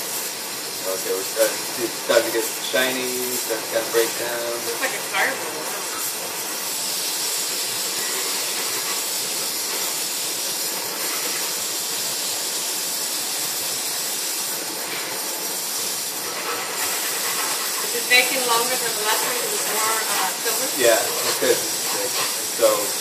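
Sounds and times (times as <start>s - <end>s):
gas torch flame hissing: 0.0s - 23.0s.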